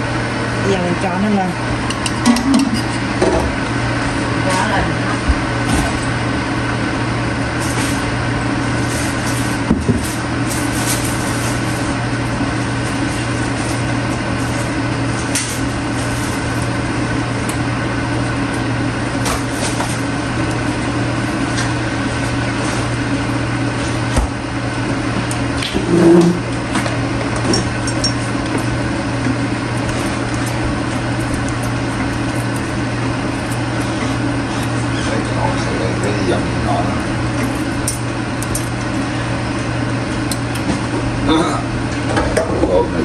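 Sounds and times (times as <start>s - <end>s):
water boiling hard: 5.3s - 41.2s.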